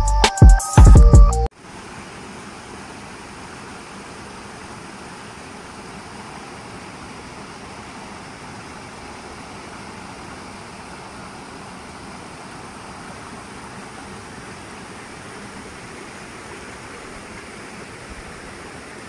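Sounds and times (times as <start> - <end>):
stream rushing over rocks: 1.5 - 19.0.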